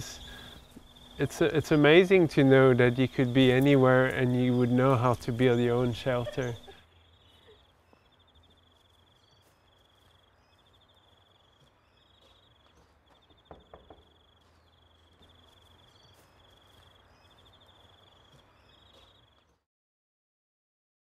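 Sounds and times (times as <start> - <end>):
insect chirping trill: 0.0 - 19.2.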